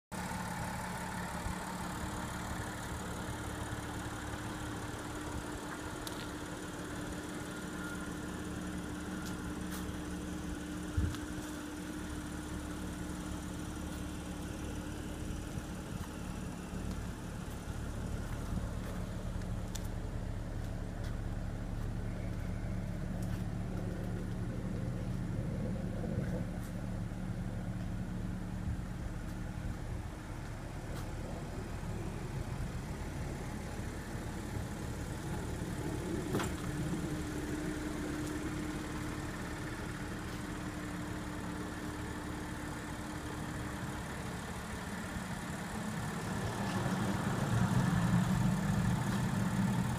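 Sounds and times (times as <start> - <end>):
car engine idling: 0.1 - 49.9.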